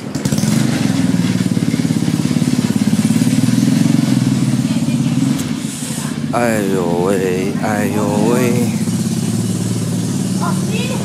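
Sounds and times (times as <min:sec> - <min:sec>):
small engine running: 0:00.2 - 0:11.0.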